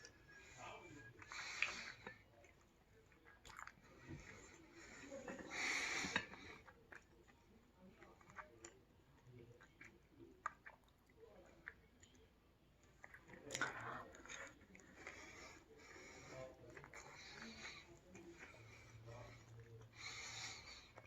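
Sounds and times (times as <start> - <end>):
close chewing: 0.0 - 21.0.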